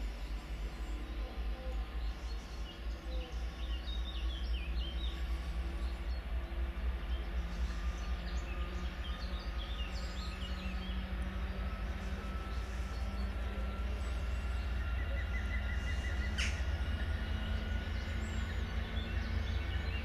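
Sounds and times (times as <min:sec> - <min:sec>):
distant diesel locomotive rumble: 0:00.0 - 0:20.0
small birds chirping: 0:00.7 - 0:20.0.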